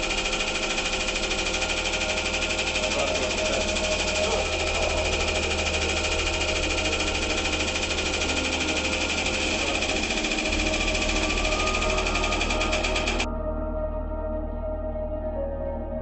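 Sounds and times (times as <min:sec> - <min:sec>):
hydraulic pump buzzing: 0:00.0 - 0:13.3.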